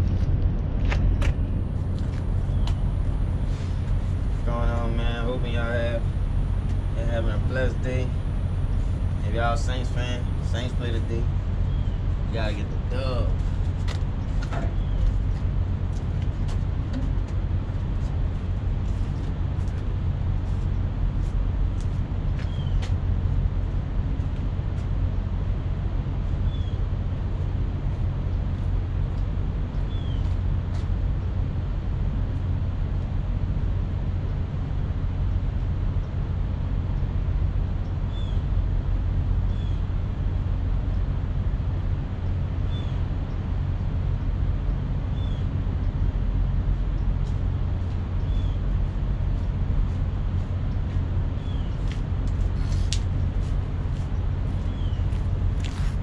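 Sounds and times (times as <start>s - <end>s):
diesel truck engines idling: 0.0s - 56.0s.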